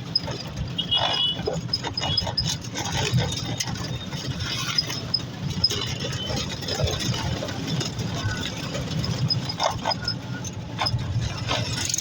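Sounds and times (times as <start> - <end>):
low road rumble: 0.0 - 12.0.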